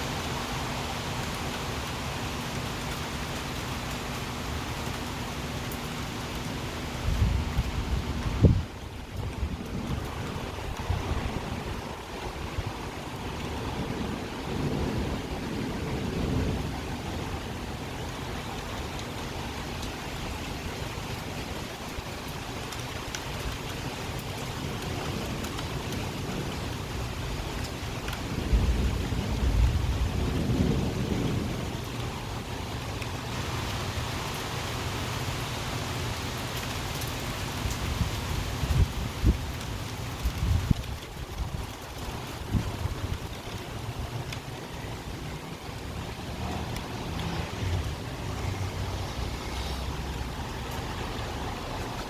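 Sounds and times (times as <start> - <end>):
raindrops ticking close by: 0.0 - 52.0
steady rain falling: 0.0 - 52.0.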